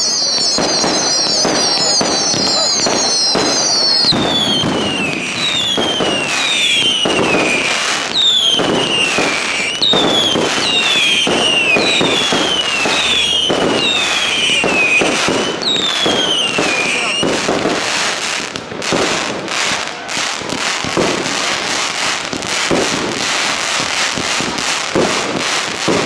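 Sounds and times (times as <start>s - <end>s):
firework pops and bangs: 0.0s - 26.0s
whistling fireworks: 0.0s - 26.0s.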